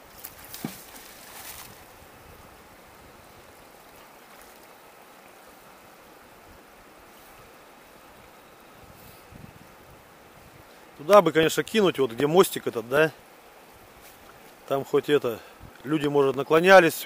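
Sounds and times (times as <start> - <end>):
stream water: 0.0 - 17.0.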